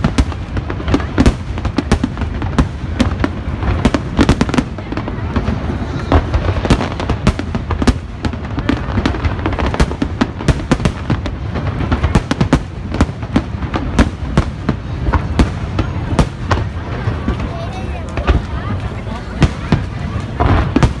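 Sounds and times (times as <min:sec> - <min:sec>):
distant fireworks rumble: 0:00.0 - 0:21.0
fireworks bangs and crackles: 0:00.0 - 0:21.0.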